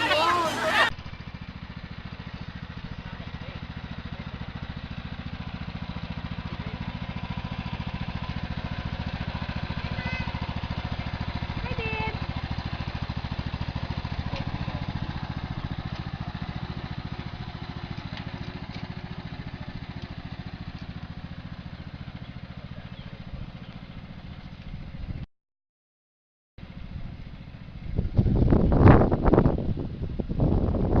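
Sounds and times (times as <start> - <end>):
small engine puttering: 0.0 - 25.2, 26.6 - 31.0.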